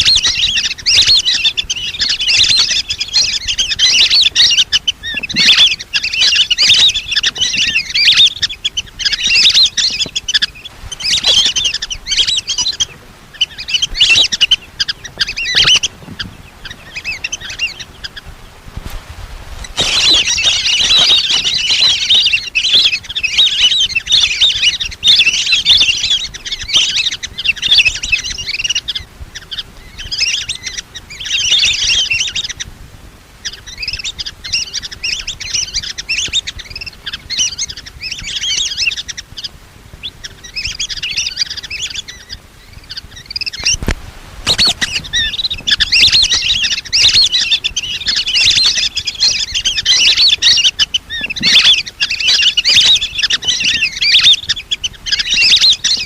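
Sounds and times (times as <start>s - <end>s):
ducks whistling chirps: 0.0s - 18.6s, 19.6s - 32.7s, 33.4s - 56.0s.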